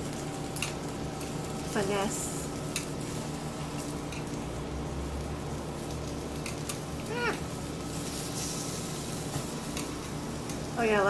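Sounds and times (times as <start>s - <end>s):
vegetables sizzling on grill pan: 0.0s - 11.0s.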